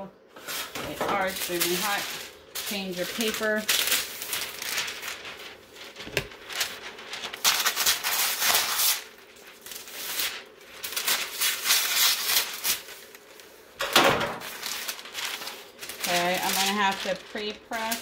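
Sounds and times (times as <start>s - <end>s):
paper rustling and crinkling: 0.3s - 18.0s.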